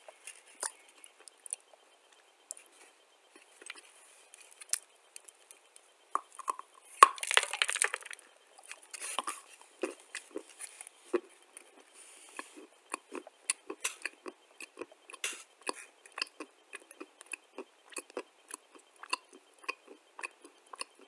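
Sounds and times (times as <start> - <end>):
crunchy chewing of clay: 0.0 - 21.0.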